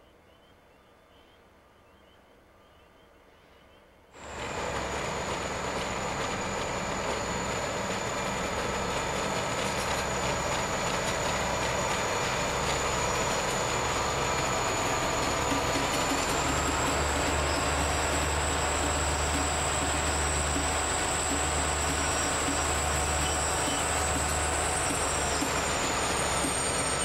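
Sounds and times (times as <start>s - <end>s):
diesel locomotive engine rumble: 4.2s - 27.0s
wheel and rail noise: 4.2s - 27.0s.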